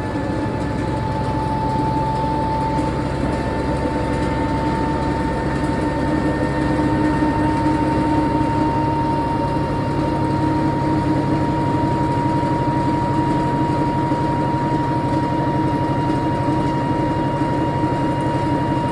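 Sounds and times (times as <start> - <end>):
bearing whine: 0.0 - 18.9
washing machine spin rumble: 0.0 - 18.9.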